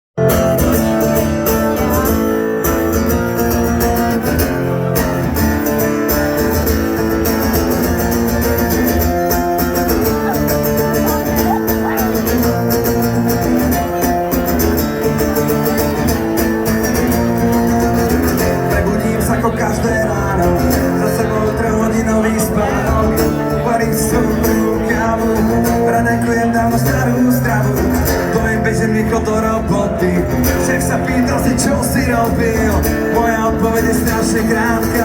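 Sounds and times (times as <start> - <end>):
guitar: 0.2 - 35.0
live band playing: 0.2 - 35.0.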